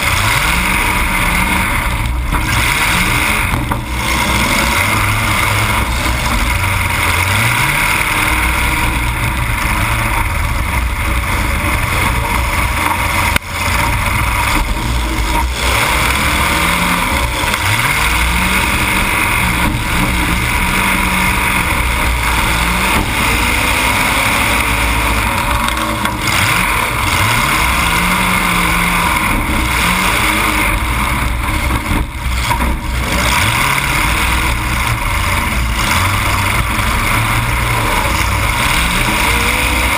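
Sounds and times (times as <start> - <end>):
car engine revving loudly: 0.0 - 39.9.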